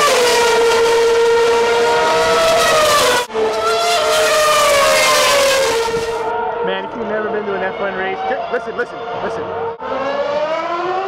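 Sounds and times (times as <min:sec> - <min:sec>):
racing car engines at high revs: 0:00.0 - 0:11.0.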